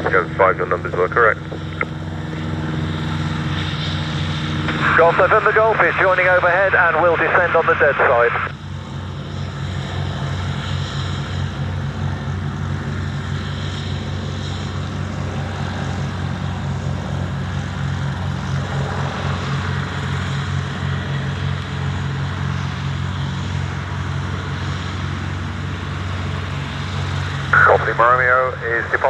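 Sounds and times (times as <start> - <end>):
airplane engine and propeller droning: 0.0 - 29.0.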